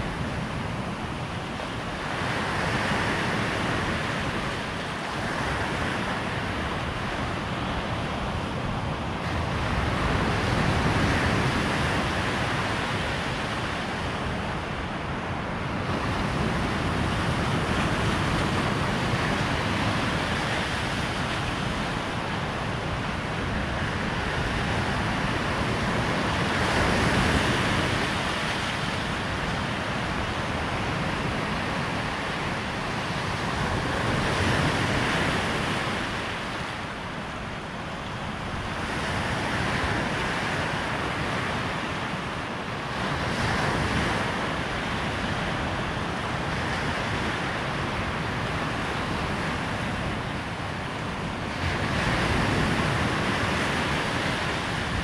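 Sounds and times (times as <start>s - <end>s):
waves breaking on beach: 0.0s - 55.0s
wind rumbling on microphone: 0.0s - 55.0s.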